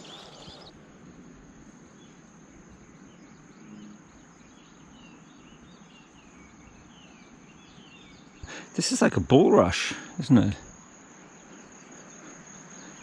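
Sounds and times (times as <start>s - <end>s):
faint bird chirps: 0.0s - 0.7s, 2.0s - 13.0s
high-pitched insect trill: 0.0s - 13.0s.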